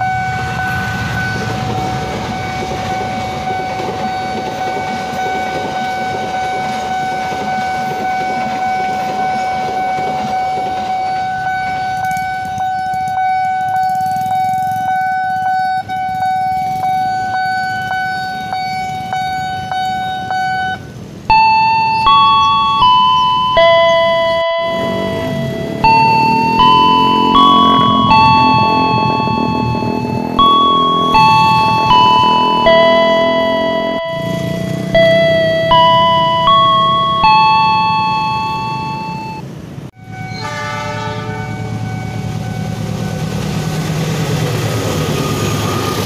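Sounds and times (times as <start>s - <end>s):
stepped chime tune: 0.0s - 39.4s
level-crossing warning bell: 0.0s - 46.0s
train rumbling past: 0.0s - 46.0s.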